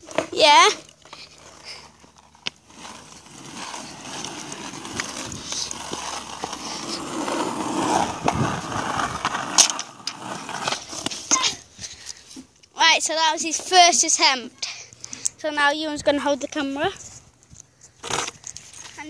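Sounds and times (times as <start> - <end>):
skateboard wheels rolling: 0.0 - 19.0.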